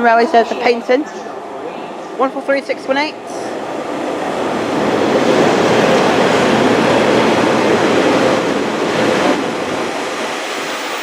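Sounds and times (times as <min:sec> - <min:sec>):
diesel train engine and wheels: 0:00.0 - 0:11.0.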